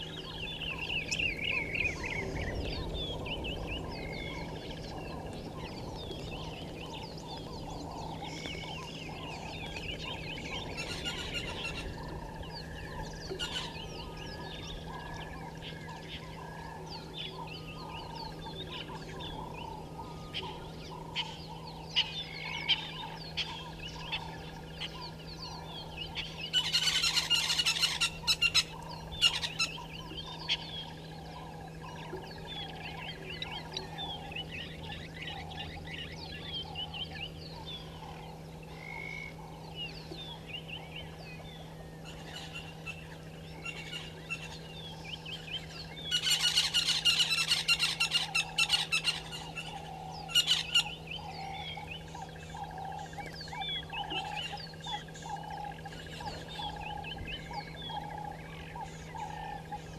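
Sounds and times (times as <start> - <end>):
birds calling and chirping: 0.0 - 59.9
steady low hum: 0.0 - 59.9.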